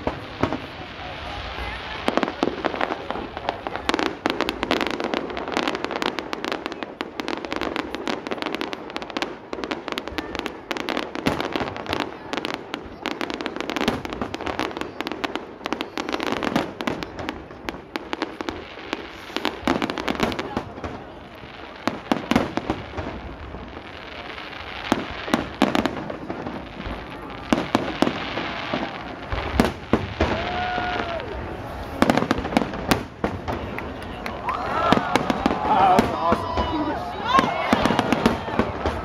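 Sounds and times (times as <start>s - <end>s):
fireworks bangs and pops: 0.0s - 39.0s.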